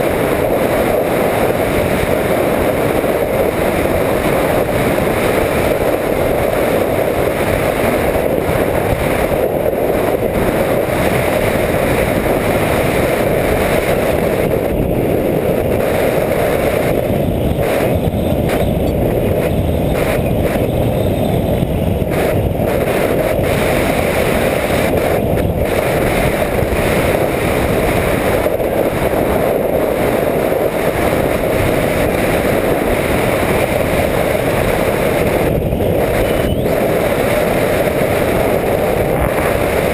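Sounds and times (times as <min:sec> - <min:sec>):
airflow and motor noise: 0:00.0 - 0:39.9.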